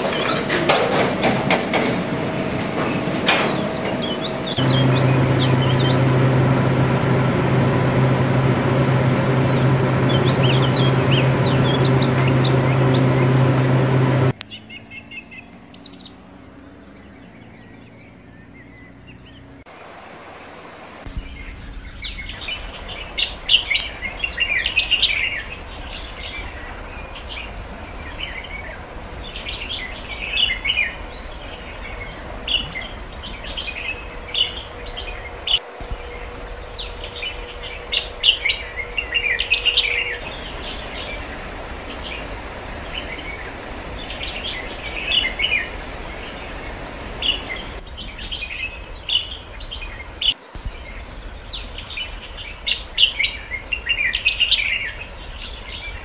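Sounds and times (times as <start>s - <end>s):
birds chirping and singing: 0.0s - 19.7s, 21.1s - 56.0s
machine hum: 0.0s - 49.7s
low outdoor background noise: 0.0s - 56.0s.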